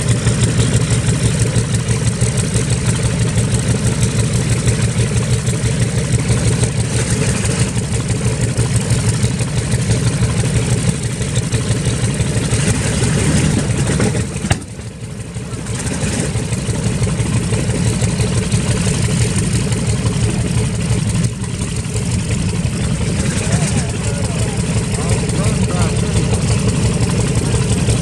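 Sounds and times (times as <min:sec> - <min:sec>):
bomber radial engines running: 0:00.0 - 0:28.0.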